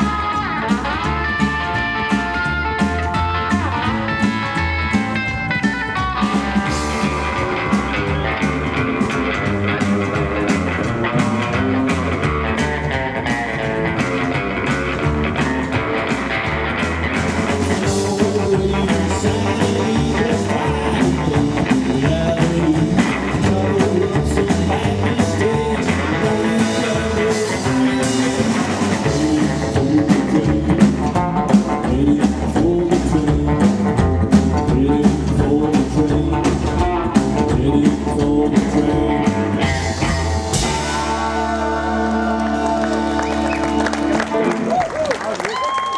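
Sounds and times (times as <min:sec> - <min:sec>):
upright double bass: 0:00.0 - 0:45.8
drum kit: 0:00.0 - 0:45.9
electric guitar: 0:00.0 - 0:45.9.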